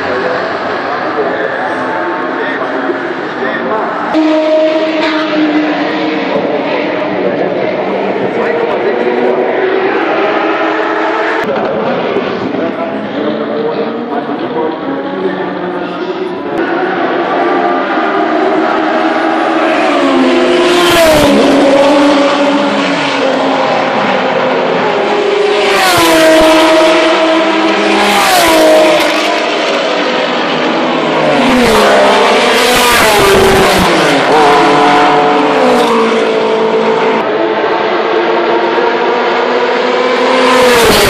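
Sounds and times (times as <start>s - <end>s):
race cars passing at full speed: 0.0s - 41.0s.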